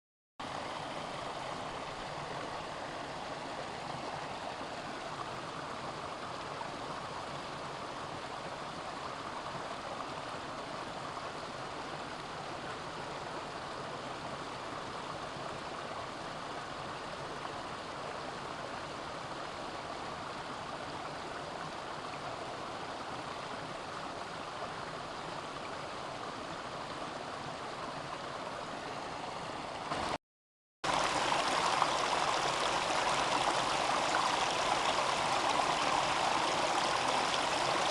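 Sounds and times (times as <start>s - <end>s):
stream rushing over rocks: 0.4s - 30.2s, 30.8s - 37.9s.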